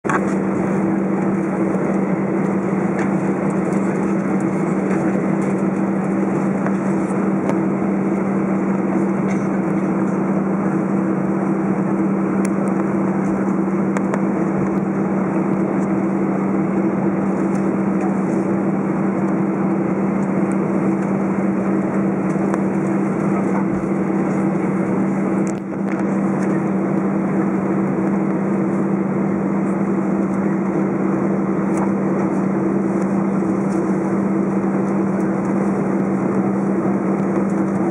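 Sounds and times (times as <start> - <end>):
jet engines droning in cabin: 0.0 - 37.9.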